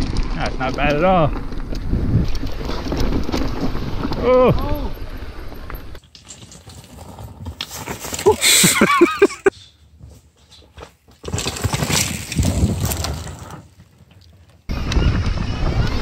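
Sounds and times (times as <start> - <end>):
bike tyres rattling over dirt: 0.0 - 16.0.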